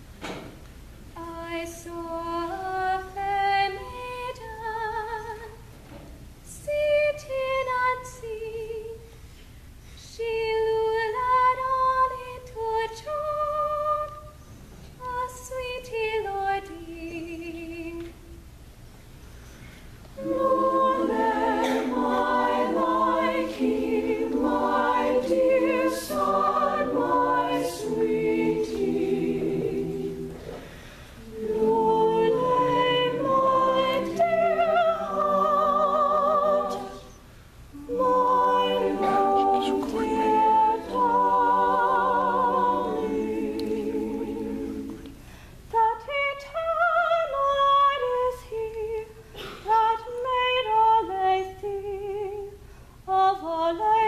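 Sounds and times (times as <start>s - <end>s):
choir singing a cappella: 1.2s - 5.6s, 10.2s - 14.4s, 15.0s - 17.8s, 20.2s - 52.6s, 53.2s - 54.0s.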